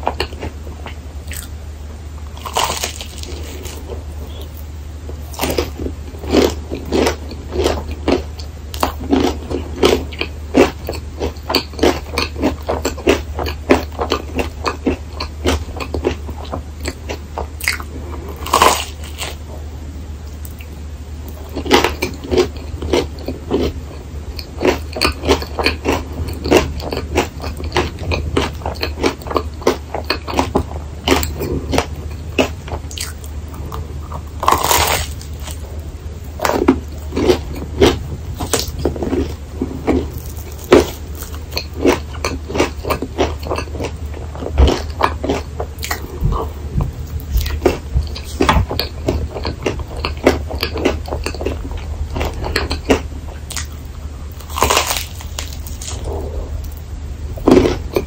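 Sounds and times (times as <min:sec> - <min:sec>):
crunchy chewing of waffle: 0:00.0 - 0:01.6, 0:02.2 - 0:58.0
steady low hum: 0:00.0 - 0:58.0.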